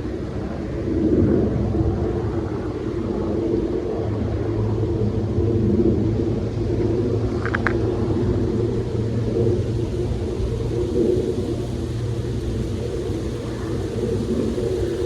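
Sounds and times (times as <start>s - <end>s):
faint rain hiss: 0.0s - 15.0s
low wind rumble: 0.0s - 15.0s.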